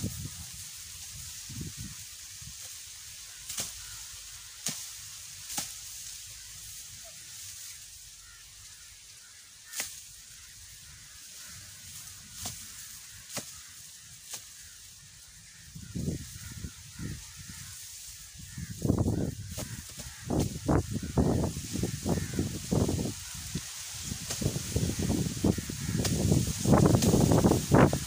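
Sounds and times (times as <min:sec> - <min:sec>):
sickle chopping grass stalks: 0:00.1 - 0:07.7, 0:09.6 - 0:10.3, 0:11.3 - 0:15.2, 0:16.0 - 0:28.0.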